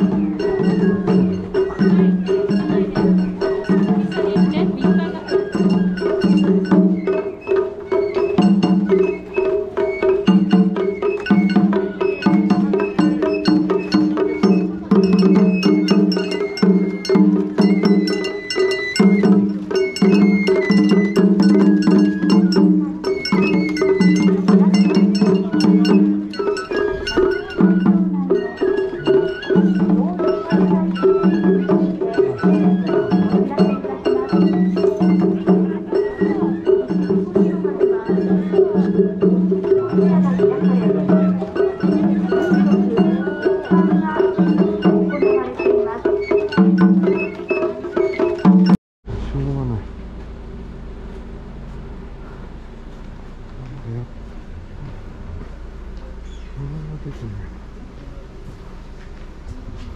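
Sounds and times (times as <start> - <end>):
drum strokes: 0.0 - 59.9.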